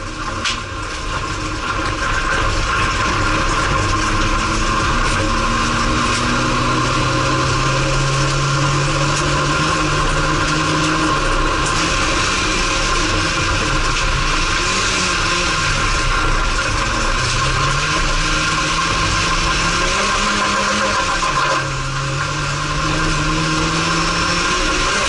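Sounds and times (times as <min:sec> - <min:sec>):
race car engine: 0:00.0 - 0:25.0
tyre and gravel noise: 0:00.0 - 0:25.0.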